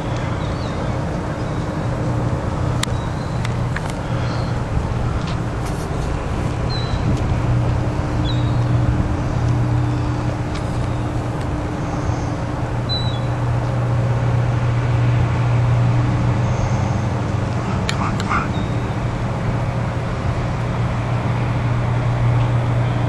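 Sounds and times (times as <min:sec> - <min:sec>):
faint steady hum: 0:00.0 - 0:23.0
low motor rumble: 0:00.0 - 0:23.0.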